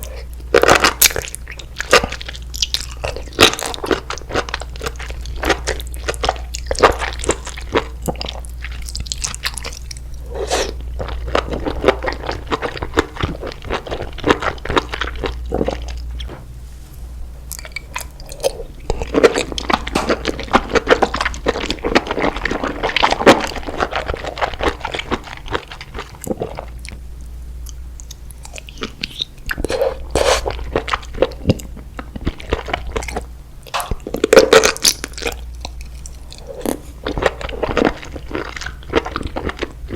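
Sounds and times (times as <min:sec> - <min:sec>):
person chewing crunchy food: 0:00.0 - 0:16.5, 0:17.5 - 0:27.0, 0:27.6 - 0:39.9.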